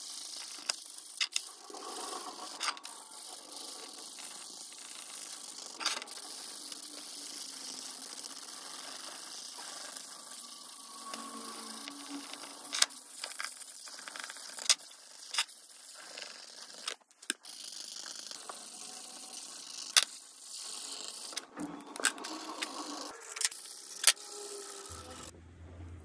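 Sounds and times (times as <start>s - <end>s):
marker scratching on paper: 0.0s - 25.3s.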